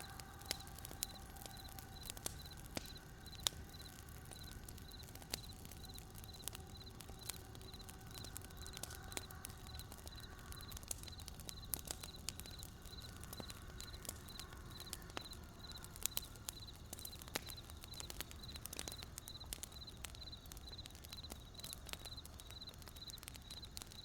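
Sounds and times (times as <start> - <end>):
campfire crackling and popping: 0.0 - 24.0
cricket chirping: 0.0 - 24.0.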